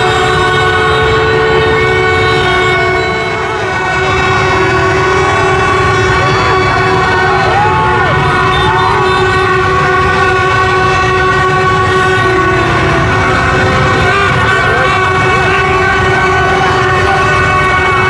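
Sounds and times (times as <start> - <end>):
crowd rumble: 0.0 - 18.0
many horns blaring: 0.0 - 18.0
motorbike traffic: 0.0 - 18.0.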